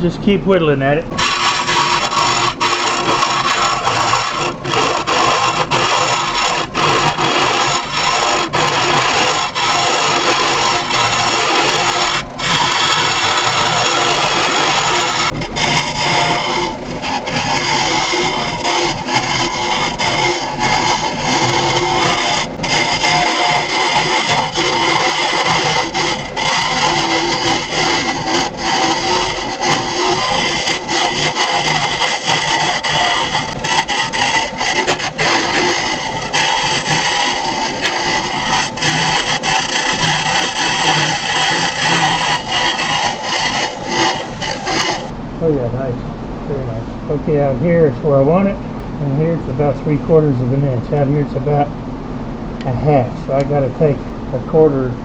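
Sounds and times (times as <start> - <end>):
lathe tool scraping wood: 0.0 - 51.7, 52.6 - 55.0.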